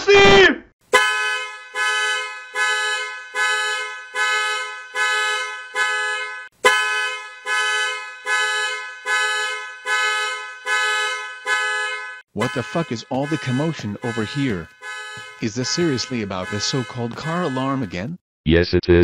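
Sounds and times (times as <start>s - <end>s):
car alarm horn honking: 0.8s - 18.2s.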